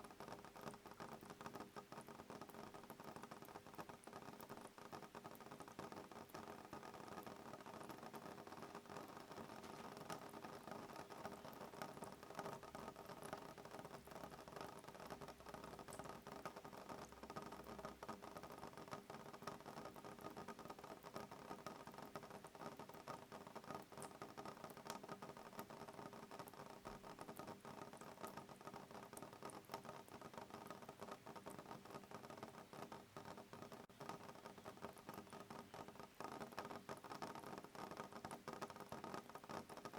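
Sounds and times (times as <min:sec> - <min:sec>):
rain pattering on window glass: 0:00.0 - 0:39.9.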